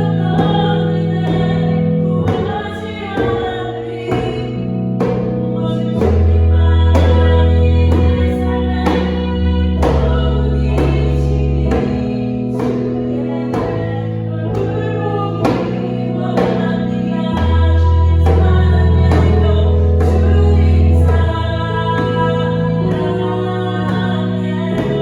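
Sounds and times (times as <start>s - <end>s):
deep bass: 0.0s - 25.0s
keyboard chords: 0.0s - 25.0s
person singing: 0.0s - 25.0s
djembe strokes: 0.1s - 25.0s.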